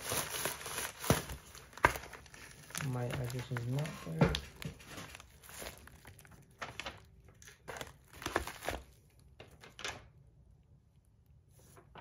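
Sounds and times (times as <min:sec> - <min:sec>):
plastic mailer crinkling: 0:00.0 - 0:10.1.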